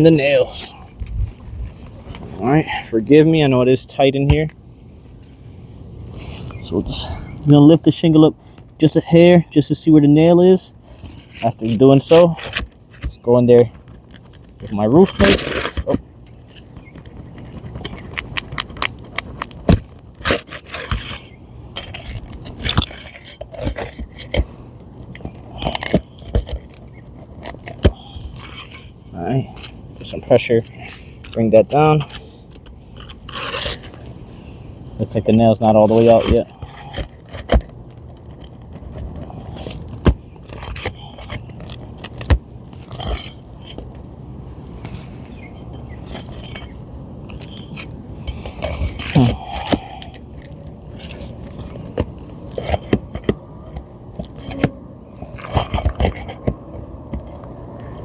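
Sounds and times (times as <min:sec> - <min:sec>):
metal clinks and scrapes: 0:00.0 - 0:05.5, 0:09.0 - 0:58.0.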